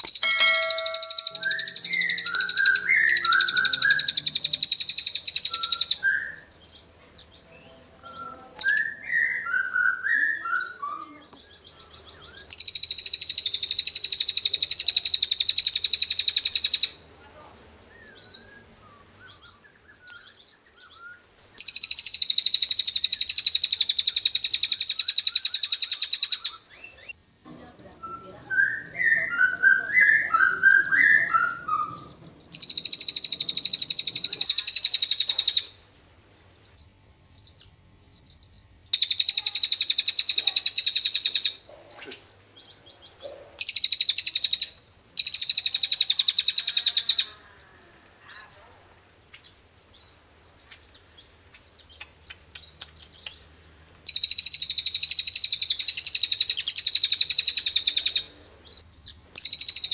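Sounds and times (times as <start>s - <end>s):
bird singing rapid high trills: 0.0s - 17.0s, 17.9s - 35.8s, 36.4s - 47.6s, 49.2s - 59.9s
lower bird chirping: 0.0s - 59.9s.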